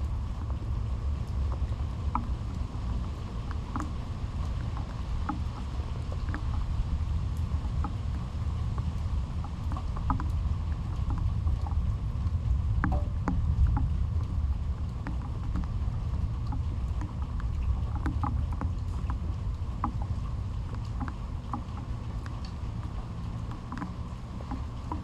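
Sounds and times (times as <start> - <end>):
rain rumble: 0.0 - 25.0
raindrops dripping: 0.0 - 25.0.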